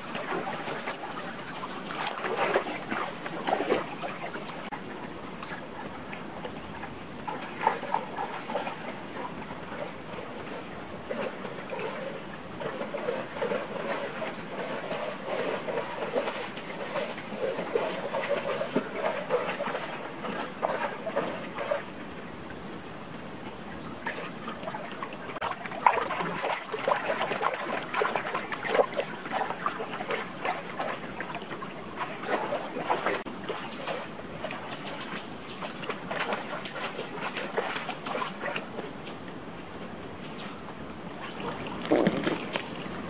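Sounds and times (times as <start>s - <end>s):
person wading in water: 0.0s - 22.2s, 23.9s - 43.0s
stream trickling: 0.0s - 43.0s.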